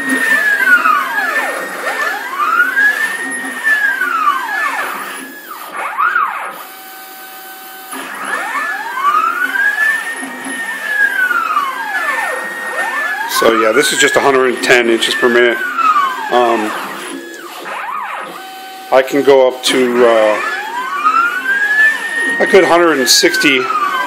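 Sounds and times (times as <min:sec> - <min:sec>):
steady machine hum: 0:00.0 - 0:24.0
stepper motors whining: 0:00.0 - 0:24.0.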